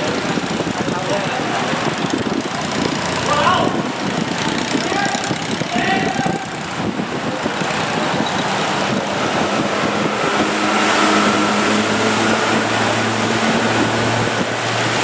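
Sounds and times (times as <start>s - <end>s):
boat engine running: 0.0s - 15.0s
water wash: 0.0s - 15.0s
wind noise: 0.0s - 15.0s.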